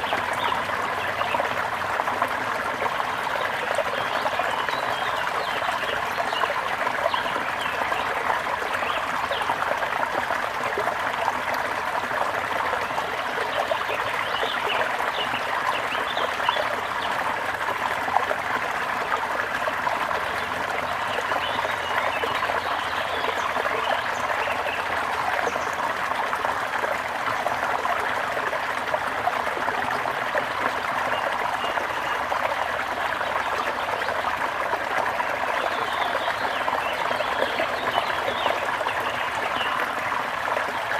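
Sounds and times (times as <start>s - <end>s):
stream flowing and trickling: 0.0s - 40.9s.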